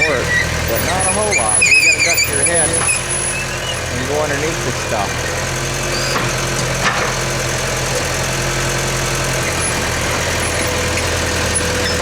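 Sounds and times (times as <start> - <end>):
dozer diesel engine running: 0.0 - 12.0.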